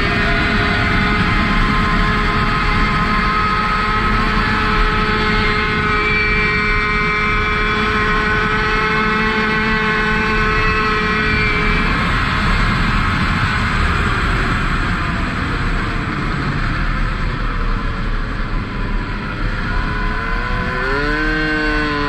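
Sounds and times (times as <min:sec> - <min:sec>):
moped engine at high revs: 0:00.0 - 0:17.1, 0:17.9 - 0:22.0
rushing wind: 0:00.0 - 0:22.0.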